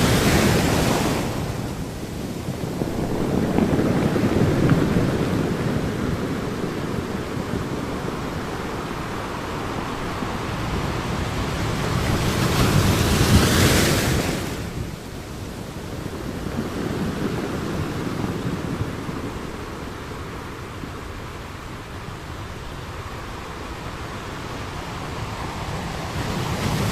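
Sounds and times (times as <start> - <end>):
ocean waves breaking: 0.0 - 26.9.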